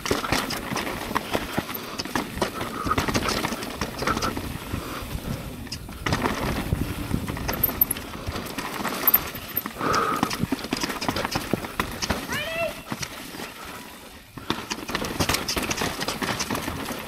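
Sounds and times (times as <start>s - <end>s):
bike rattling over bumps: 0.0s - 17.0s
bike tyre noise on dirt: 0.0s - 17.0s.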